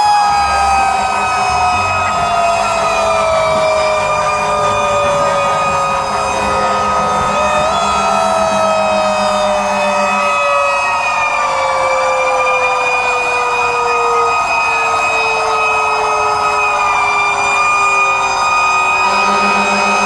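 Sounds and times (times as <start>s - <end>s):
fire truck sirens wailing: 0.0s - 20.0s.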